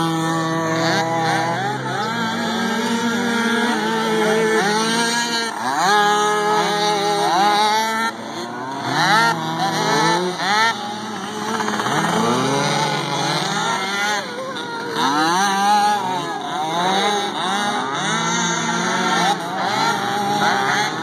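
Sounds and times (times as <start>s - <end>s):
mini quad engines racing: 0.0s - 21.0s.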